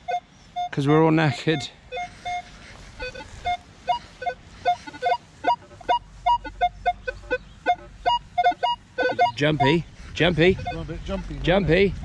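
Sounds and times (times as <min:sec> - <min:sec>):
metal detector beeps: 0:00.0 - 0:09.8, 0:10.5 - 0:11.3.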